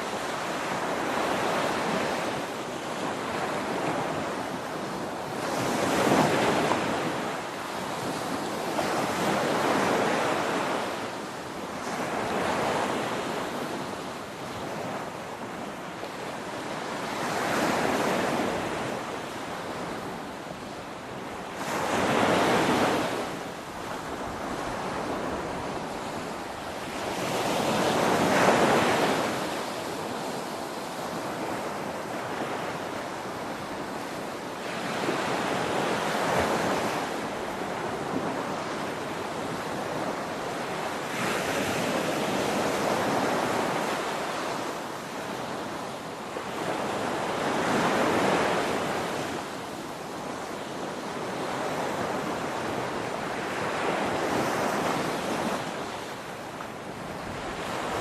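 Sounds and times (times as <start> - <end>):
ocean waves crashing on shore: 0.0 - 58.0.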